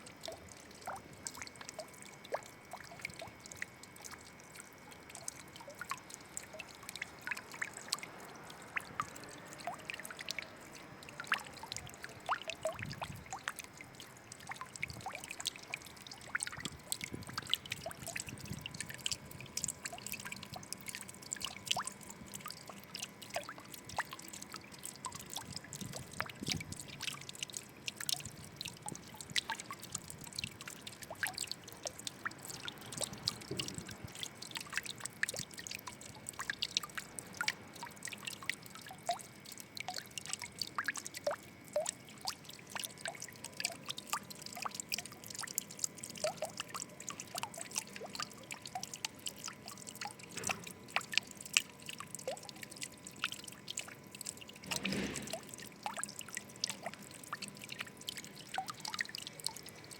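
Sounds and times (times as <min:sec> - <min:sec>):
water dripping and splashing: 0:00.0 - 0:59.9
water trickling: 0:00.0 - 0:59.9.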